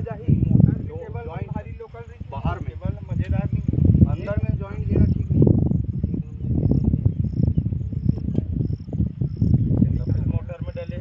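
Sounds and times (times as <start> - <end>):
low rumble: 0.0 - 11.0
cricket chirping: 1.6 - 11.0.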